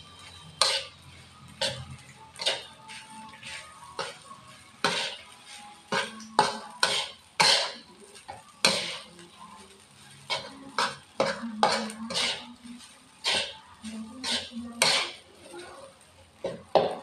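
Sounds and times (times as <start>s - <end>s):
spatula scraping a wok: 0.0s - 17.0s.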